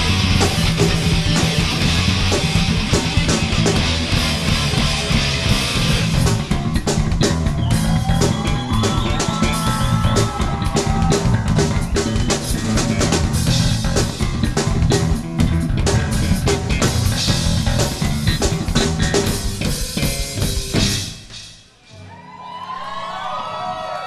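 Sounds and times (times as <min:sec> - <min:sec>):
low bass notes: 0:00.0 - 0:21.4
rock band playing: 0:00.0 - 0:22.0.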